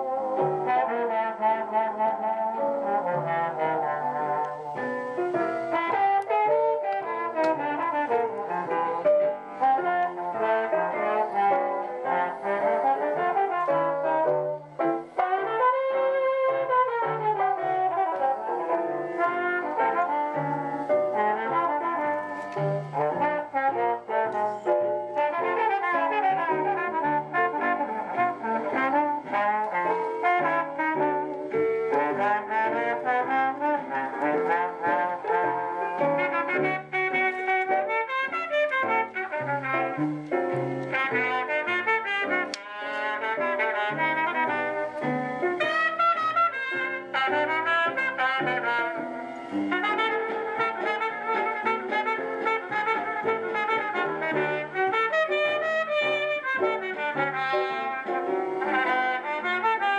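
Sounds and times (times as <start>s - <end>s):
brass instrumental music on record: 0.0s - 59.9s.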